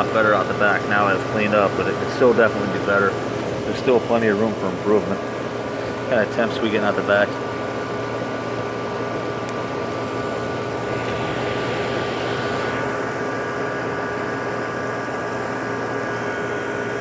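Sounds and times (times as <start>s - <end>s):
air conditioner compressor hum: 0.0s - 17.0s
fan air rushing: 0.0s - 17.0s.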